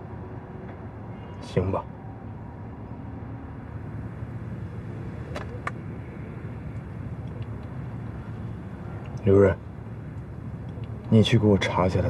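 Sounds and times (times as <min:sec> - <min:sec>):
car road rumble: 0:02.3 - 0:12.0.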